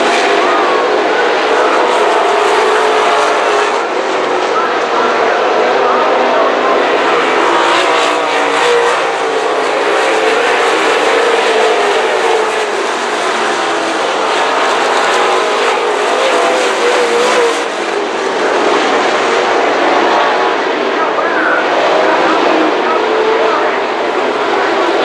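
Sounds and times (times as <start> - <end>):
race car engines racing: 0.0 - 25.0.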